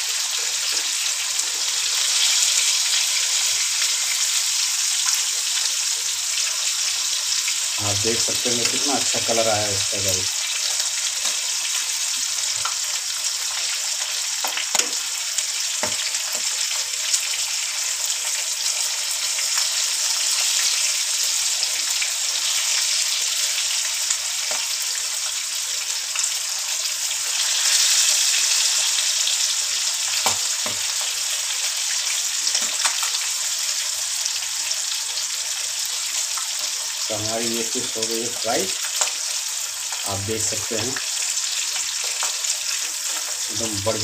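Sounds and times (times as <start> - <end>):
fish sizzling in hot oil: 0.0 - 44.0.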